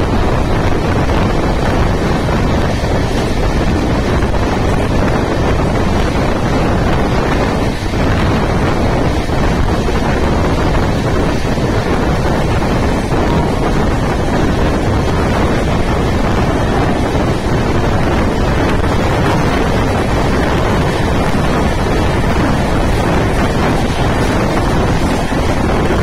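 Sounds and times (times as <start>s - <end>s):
moving train running noise: 0.0s - 26.0s
wind buffeting microphone: 0.0s - 26.0s.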